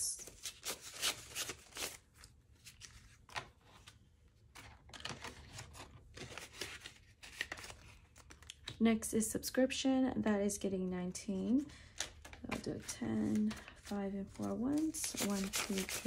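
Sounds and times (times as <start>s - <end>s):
paper banknotes rustling: 0.2s - 8.7s, 11.4s - 16.0s.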